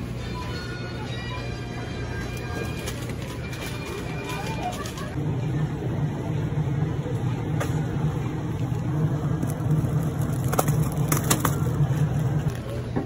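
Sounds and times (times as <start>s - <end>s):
freezer cases humming: 0.0s - 13.0s.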